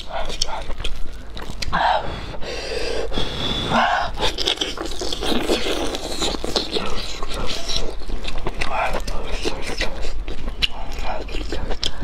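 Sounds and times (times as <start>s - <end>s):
biting and chewing: 0.0s - 1.8s, 4.0s - 12.0s.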